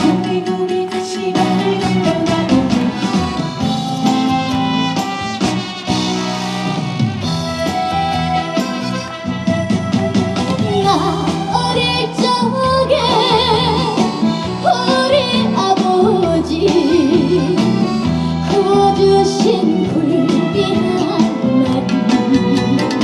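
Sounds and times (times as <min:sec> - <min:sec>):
woman singing with vibrato: 0:00.0 - 0:05.3, 0:06.2 - 0:23.0
band playing steady beat: 0:00.0 - 0:23.0.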